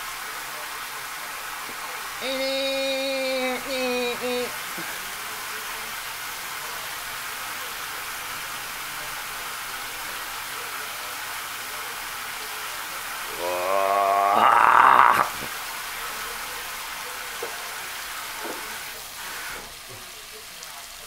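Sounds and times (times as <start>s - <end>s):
chicken sizzling in frying pan: 0.0s - 21.0s.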